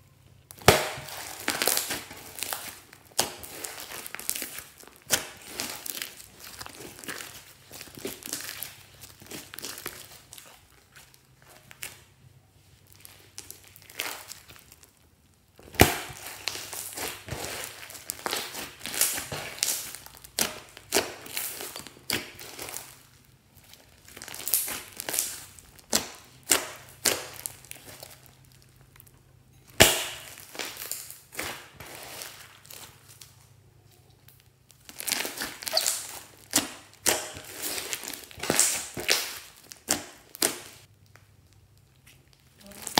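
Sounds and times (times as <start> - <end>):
slime crackling and popping: 0.3 - 12.1, 12.8 - 42.9.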